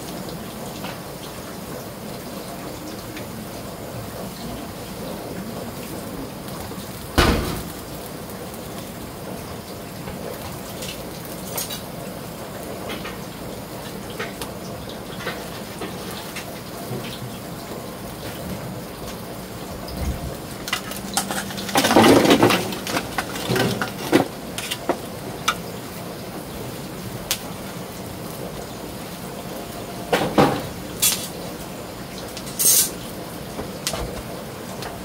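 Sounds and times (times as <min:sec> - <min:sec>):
fish sizzling on grill: 0:00.0 - 0:35.0.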